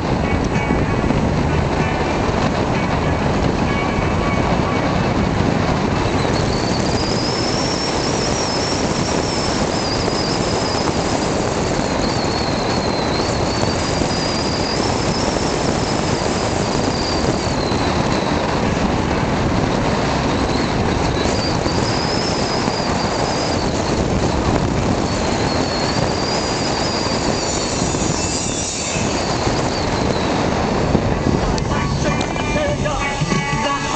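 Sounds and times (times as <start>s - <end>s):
car road and wind noise: 0.0s - 33.9s
high wavering whine: 0.0s - 33.9s.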